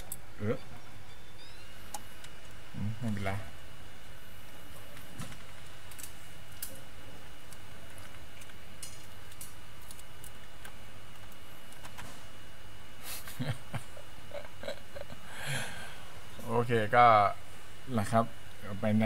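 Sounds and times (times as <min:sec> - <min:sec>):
background hiss and hum: 0:00.0 - 0:19.0
faint high whine: 0:00.0 - 0:19.0.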